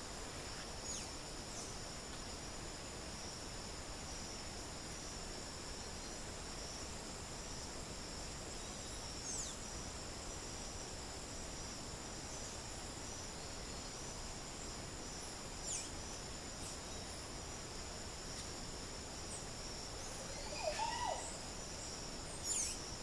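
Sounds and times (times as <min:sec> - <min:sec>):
insect chorus trilling: 0:00.0 - 0:23.0.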